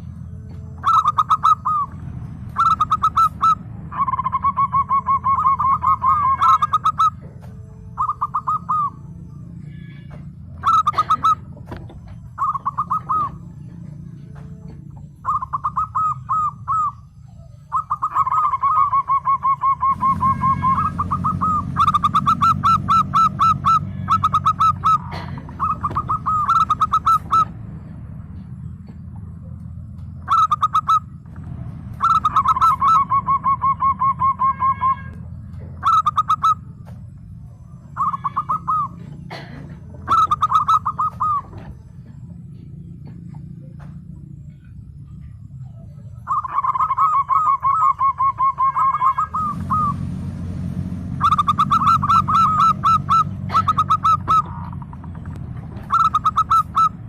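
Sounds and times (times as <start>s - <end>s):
dove cooing: 0.0s - 57.0s
steady low hum: 0.0s - 57.0s.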